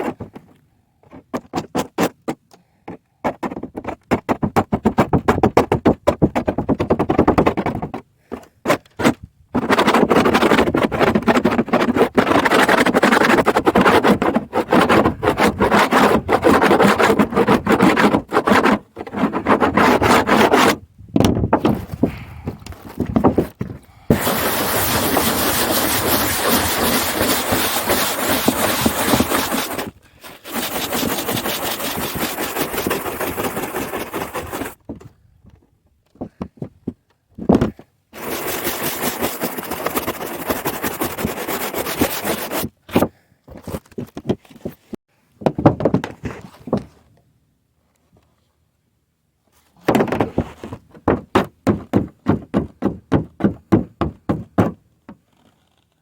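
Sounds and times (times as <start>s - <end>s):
hand scraping metal roof: 0.0s - 34.8s, 37.6s - 45.0s, 49.8s - 54.8s.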